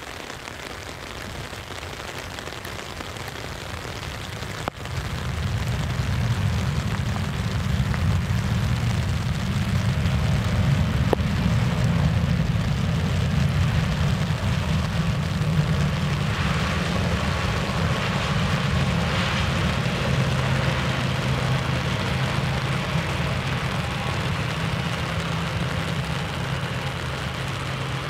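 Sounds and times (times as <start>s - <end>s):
jet engines rumbling: 3.2s - 28.0s.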